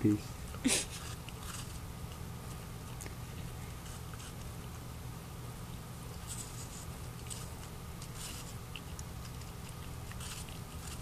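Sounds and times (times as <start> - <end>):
puppy chewing an apple: 0.4 - 11.0.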